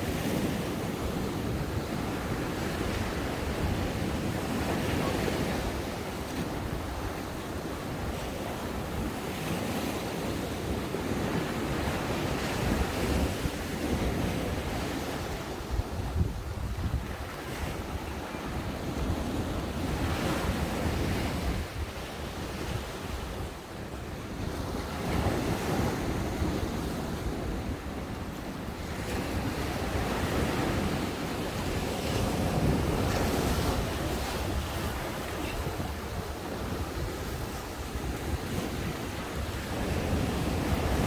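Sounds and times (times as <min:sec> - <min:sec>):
ocean waves breaking on beach: 0:00.0 - 0:41.0
wind buffeting microphone: 0:00.0 - 0:41.0.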